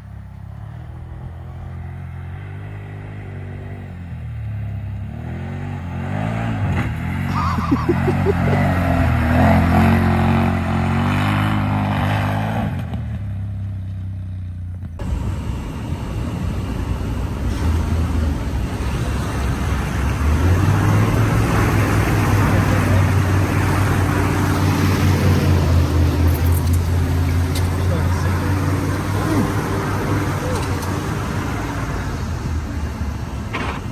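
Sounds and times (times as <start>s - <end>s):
vehicle engine revving: 0.0s - 33.9s.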